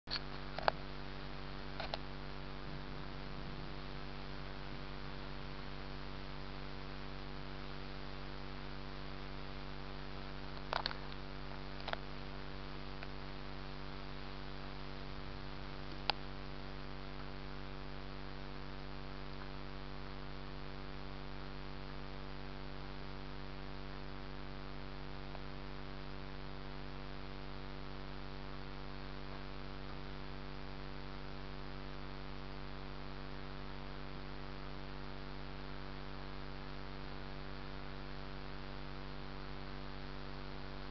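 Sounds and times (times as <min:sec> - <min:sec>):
steady electrical hum: 0:00.1 - 0:40.9.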